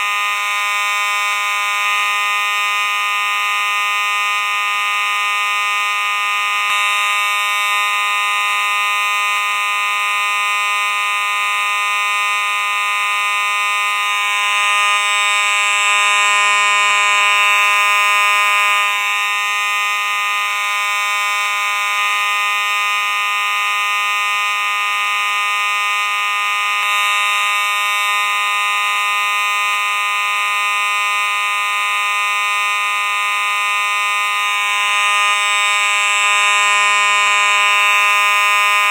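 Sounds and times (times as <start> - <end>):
fire alarm tone: 0.0 - 38.9.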